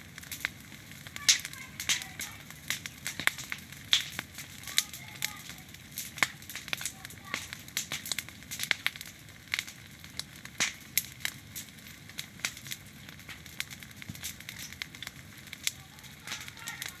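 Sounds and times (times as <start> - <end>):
bonfire crackling and popping: 0.0 - 17.0
fire hissing: 0.0 - 17.0.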